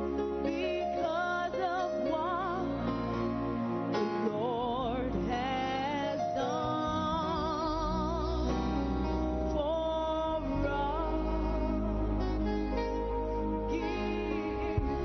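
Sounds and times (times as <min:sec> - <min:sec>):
gospel singing with vibrato: 0:00.0 - 0:15.0
instrumental accompaniment: 0:00.0 - 0:15.0.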